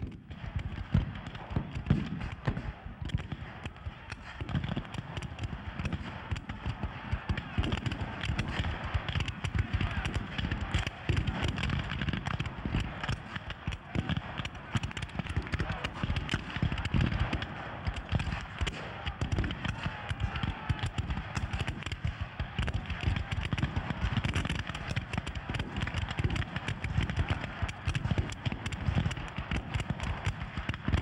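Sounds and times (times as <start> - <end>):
muskets firing: 0.1 - 31.0.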